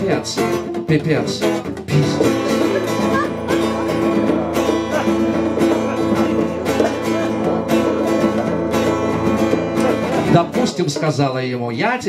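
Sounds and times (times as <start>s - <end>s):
acoustic guitar strumming: 0.0s - 12.0s
bongos: 0.0s - 12.0s.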